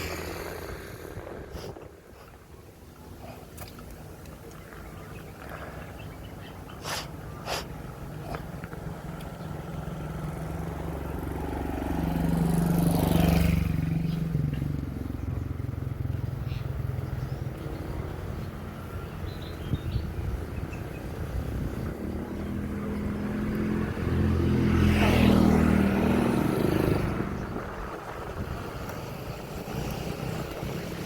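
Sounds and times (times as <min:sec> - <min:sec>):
motor vehicle passing: 0:00.0 - 0:31.0
mountain bike rumble: 0:00.0 - 0:31.0.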